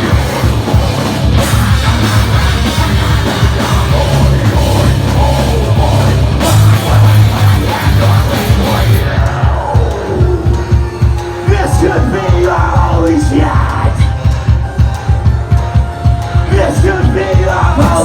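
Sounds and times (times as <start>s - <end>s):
rock band playing live: 0.0s - 18.0s
rock drums: 0.0s - 18.0s.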